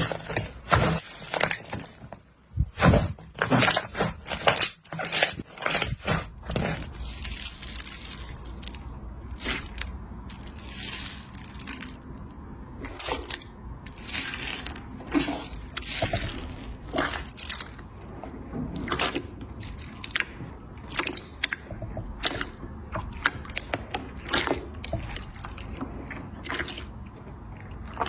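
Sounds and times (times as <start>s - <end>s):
slime crackling: 0.0s - 28.0s
sticky slime squishes: 0.0s - 28.0s.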